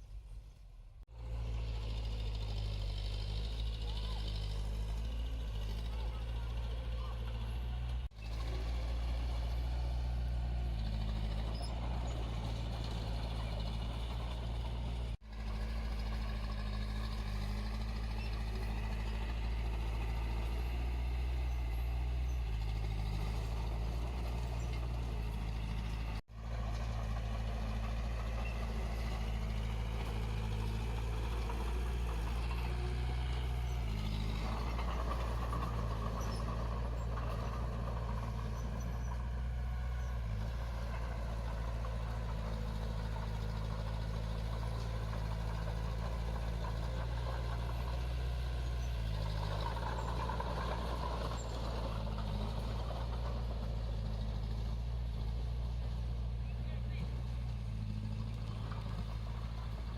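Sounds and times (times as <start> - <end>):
diesel engine of earthmoving machinery: 0.0 - 59.9.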